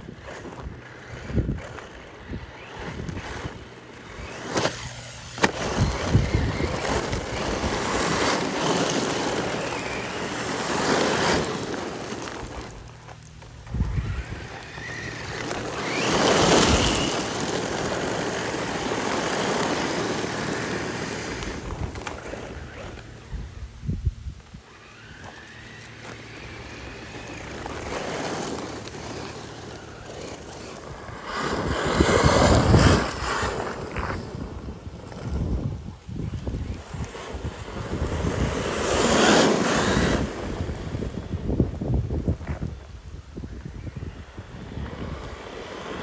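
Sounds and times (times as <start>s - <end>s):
electric motor whine: 0.0s - 46.0s
tyres spraying gravel: 0.0s - 46.0s.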